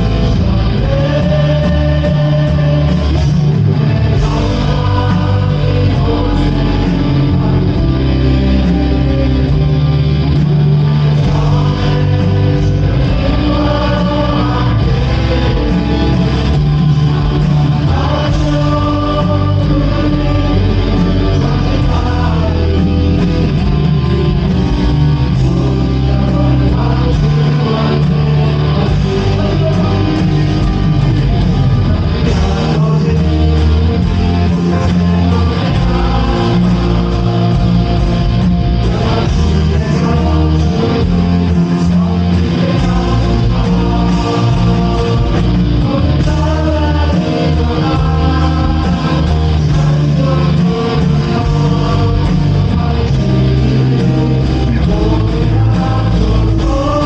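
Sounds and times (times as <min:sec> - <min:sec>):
bass guitar: 0:00.0 - 0:57.0
guitar: 0:00.0 - 0:57.0
live band playing praise song: 0:00.0 - 0:57.0
person singing: 0:00.0 - 0:57.0.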